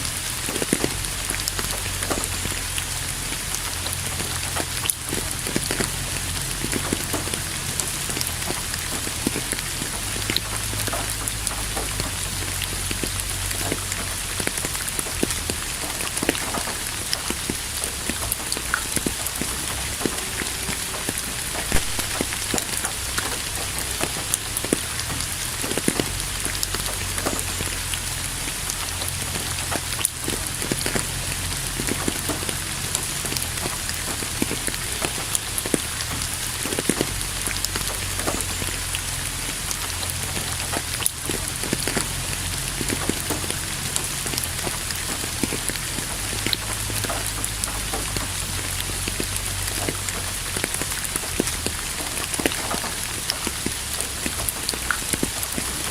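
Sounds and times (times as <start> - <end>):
low uneven rumble: 0.0 - 55.9
rain hissing: 0.0 - 55.9
raindrops ticking: 0.0 - 55.9.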